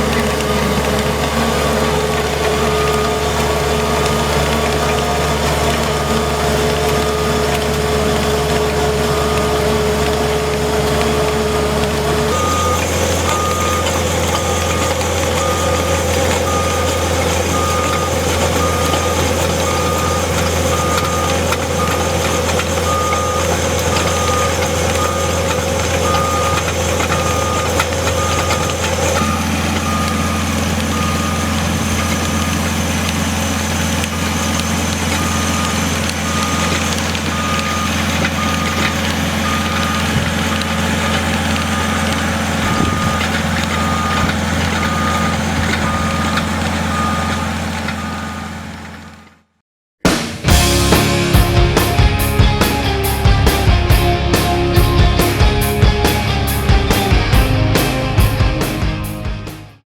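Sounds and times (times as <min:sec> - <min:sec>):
backup alarm beeping: 0:00.0 - 0:48.7
loader engine running: 0:00.0 - 0:59.8.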